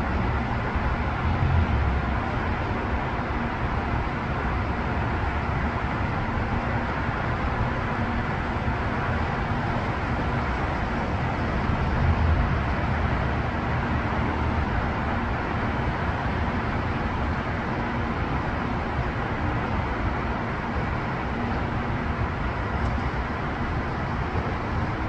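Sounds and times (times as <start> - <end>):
highway traffic hum: 0.0 - 25.0.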